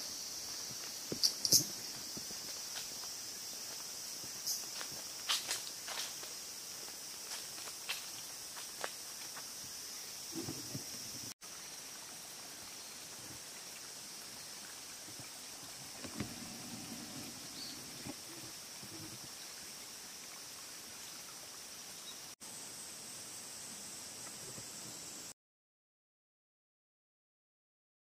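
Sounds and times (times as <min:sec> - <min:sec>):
insect drone: 0:00.0 - 0:25.4.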